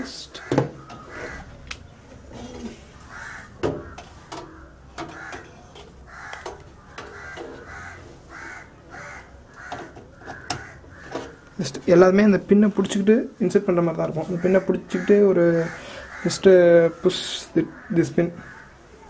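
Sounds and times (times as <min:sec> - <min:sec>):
crows cawing: 0:00.1 - 0:01.7, 0:02.6 - 0:11.7, 0:14.2 - 0:19.0.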